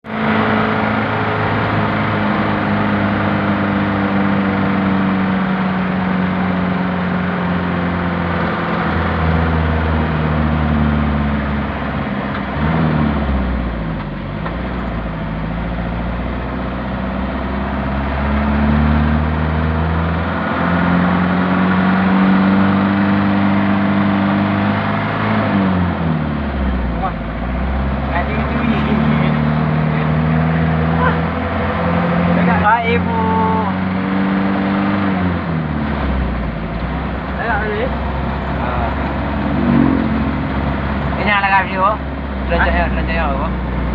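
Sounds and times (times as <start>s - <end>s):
car engine droning: 0.0s - 43.9s.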